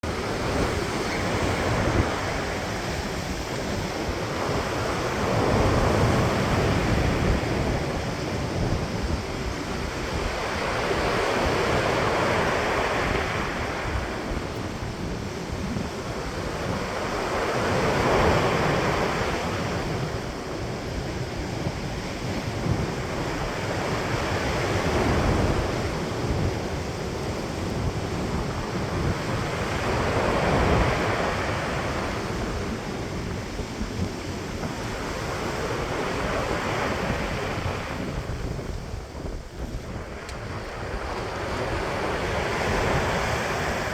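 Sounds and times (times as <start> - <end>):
sea waves breaking on shore: 0.0 - 43.9
wind rumbling on microphone: 0.0 - 43.9.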